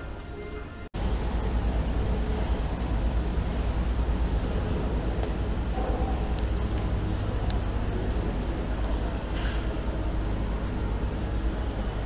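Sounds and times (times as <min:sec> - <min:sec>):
street and traffic noise: 0:00.0 - 0:12.0.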